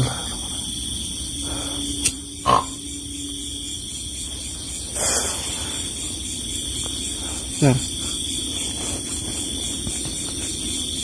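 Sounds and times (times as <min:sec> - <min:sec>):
frogs and insects chorus: 0:00.0 - 0:11.0.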